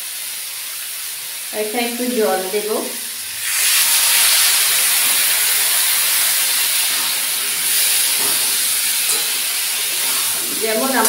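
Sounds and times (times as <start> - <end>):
water sizzling in hot pan: 0.0 - 11.0.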